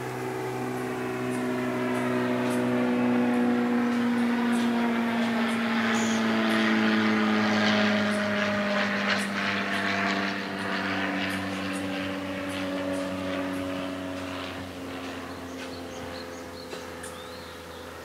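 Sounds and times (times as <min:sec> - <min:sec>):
passing aircraft engine drone: 0:00.0 - 0:18.0.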